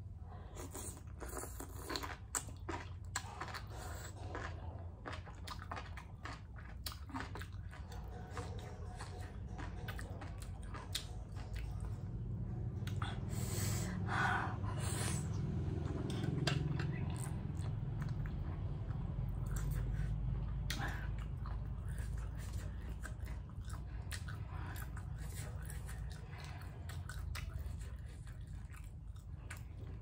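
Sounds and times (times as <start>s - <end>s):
steady low hum: 0.0s - 30.0s
person chewing: 0.2s - 30.0s.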